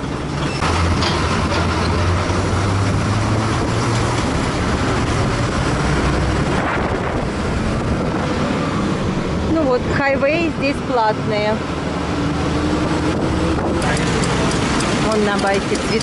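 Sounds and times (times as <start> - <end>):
bus engine drone: 0.0 - 16.0
road noise: 0.0 - 16.0.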